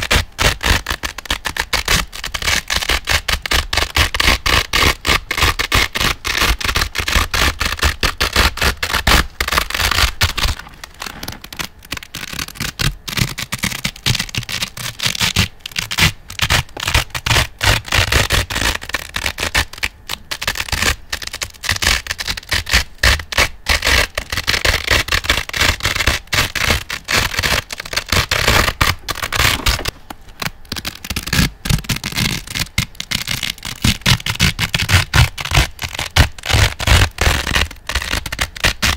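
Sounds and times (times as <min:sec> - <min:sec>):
velcro ripping apart: 0:00.0 - 0:38.9.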